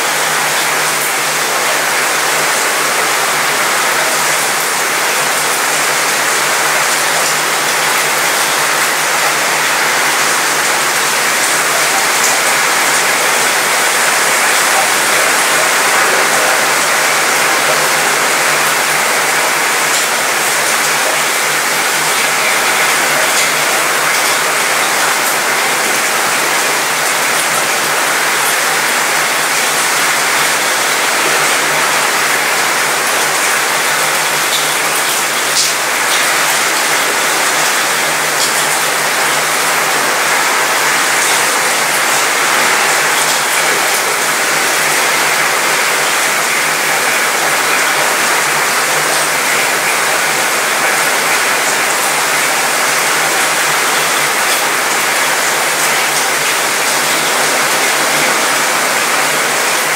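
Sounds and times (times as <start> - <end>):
rain pattering on metal: 0.0 - 59.9.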